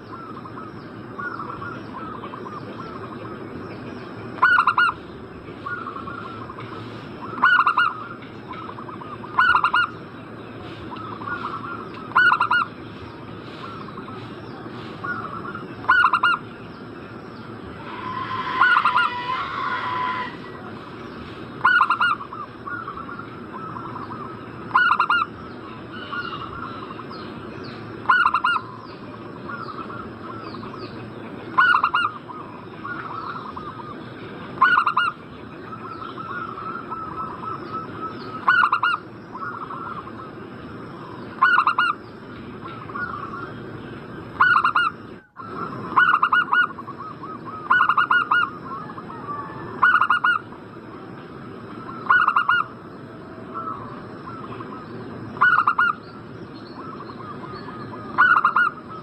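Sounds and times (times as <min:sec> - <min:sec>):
doves cooing: 0:04.1 - 0:16.5, 0:17.6 - 0:30.8, 0:31.5 - 0:34.0, 0:34.6 - 0:40.4, 0:44.2 - 0:56.1, 0:56.7 - 0:59.0.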